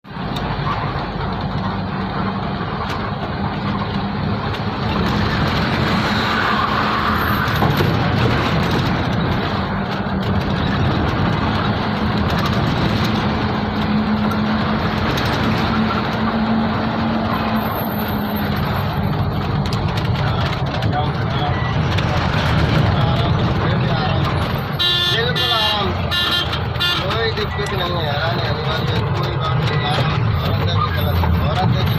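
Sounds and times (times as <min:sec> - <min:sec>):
road noise: 0:00.0 - 0:31.9
truck engine humming: 0:00.1 - 0:31.9.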